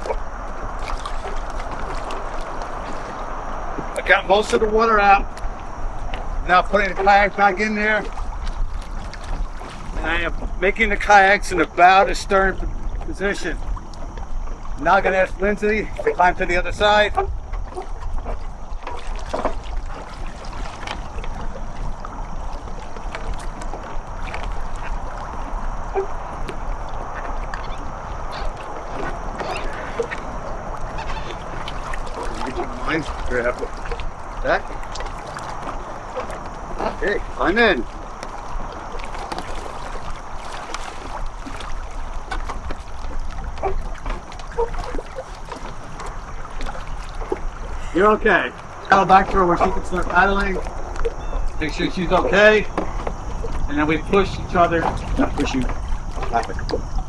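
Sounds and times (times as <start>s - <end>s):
small splashes: 0.0s - 57.0s
water lapping against kayaks: 0.0s - 57.0s.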